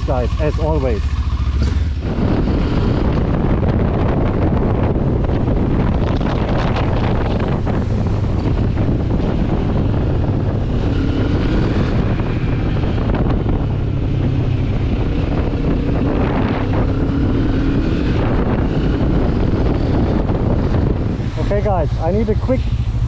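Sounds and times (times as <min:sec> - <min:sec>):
motorcycle engine running: 0:00.0 - 0:23.0
wind rush on microphone: 0:00.0 - 0:23.0.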